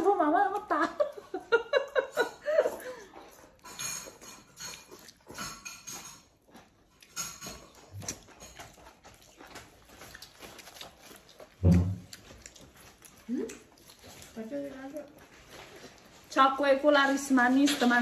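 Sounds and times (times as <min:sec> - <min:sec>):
people chewing food: 0:00.0 - 0:18.0.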